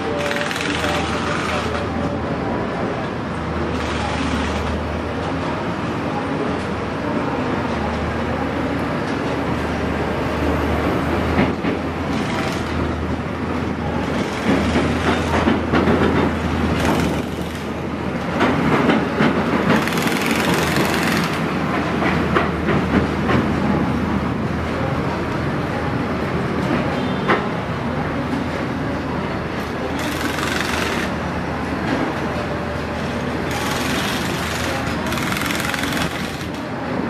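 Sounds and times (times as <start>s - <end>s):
train rolling with low hum: 0.0s - 37.0s.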